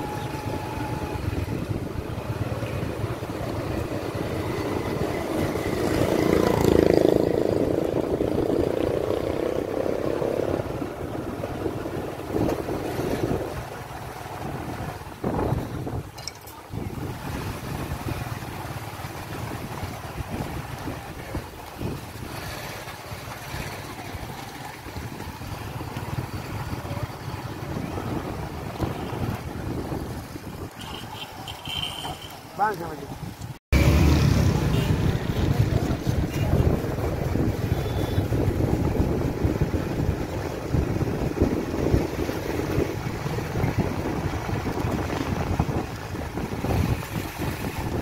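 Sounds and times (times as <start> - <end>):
wind buffeting microphone: 0.0 - 31.1, 32.7 - 48.0
road noise: 0.0 - 48.0.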